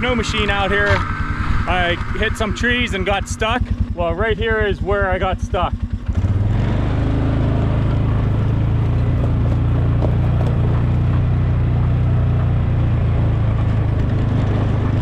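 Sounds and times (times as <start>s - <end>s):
atv engine running steadily: 0.0s - 15.0s.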